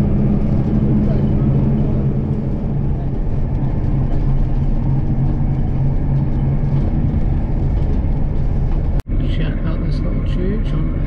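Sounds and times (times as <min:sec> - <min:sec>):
bus engine hum: 0:00.0 - 0:11.0
road rumble: 0:00.0 - 0:11.0.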